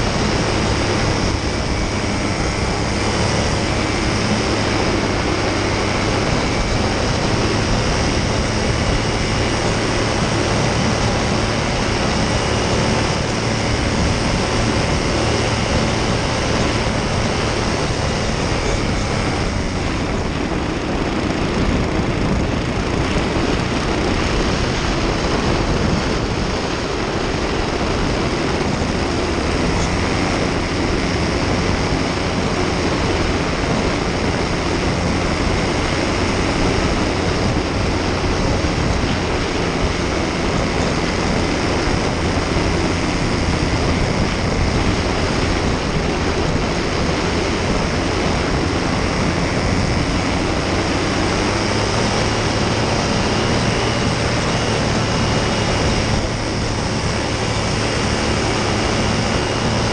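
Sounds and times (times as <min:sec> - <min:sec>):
paramotor engine droning: 0:00.0 - 0:59.9
wind on microphone: 0:00.0 - 0:59.9.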